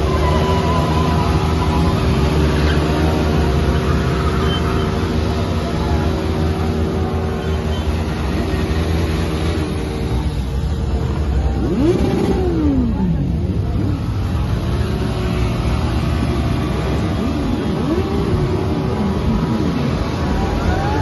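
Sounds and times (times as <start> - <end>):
motorcycle engine revving: 0.0 - 20.5.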